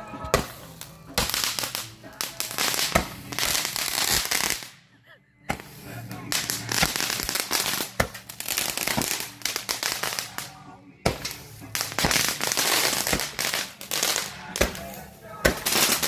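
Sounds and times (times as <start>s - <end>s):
fireworks popping and crackling: 0.2s - 4.8s, 5.5s - 16.0s.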